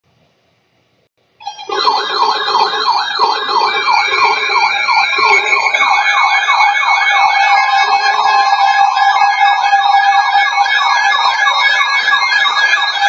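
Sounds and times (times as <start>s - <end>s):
emergency vehicle sirens: 1.4s - 13.0s.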